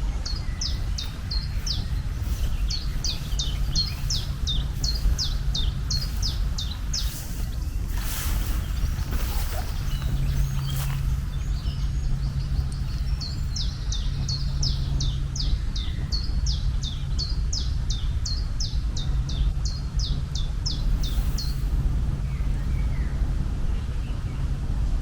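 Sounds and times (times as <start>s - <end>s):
steady low hum and rumble: 0.0s - 25.0s.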